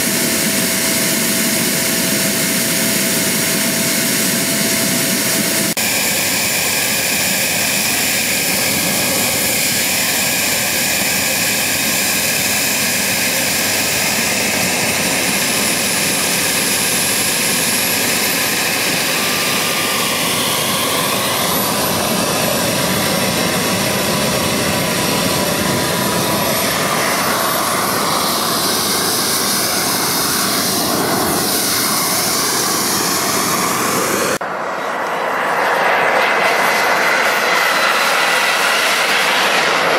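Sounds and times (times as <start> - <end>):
small jet turbine roaring: 0.0 - 39.9.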